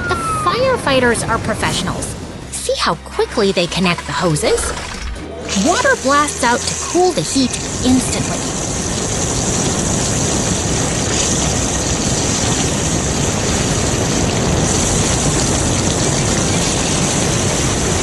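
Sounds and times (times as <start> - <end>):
fire hoses spraying water: 2.7 - 18.0.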